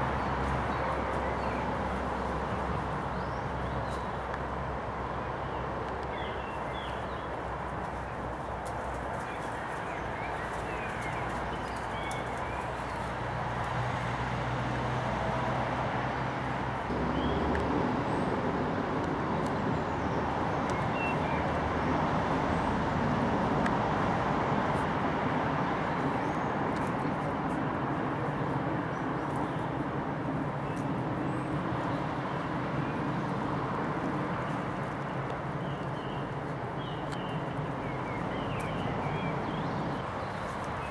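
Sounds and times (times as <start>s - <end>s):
distant road traffic: 0.0s - 40.9s.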